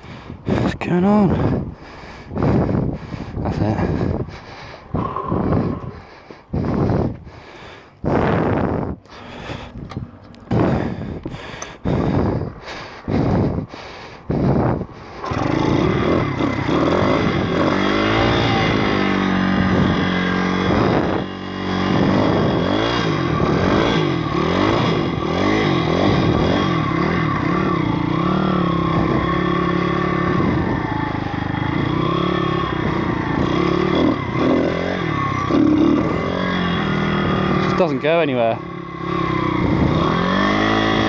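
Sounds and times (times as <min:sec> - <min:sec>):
motorbike engine revving: 0:00.0 - 0:41.0.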